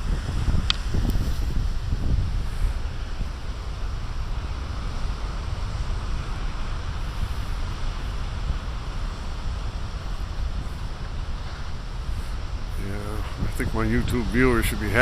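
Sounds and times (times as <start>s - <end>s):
ocean waves breaking on beach: 0.0s - 15.0s
wind rumbling on microphone: 0.0s - 15.0s.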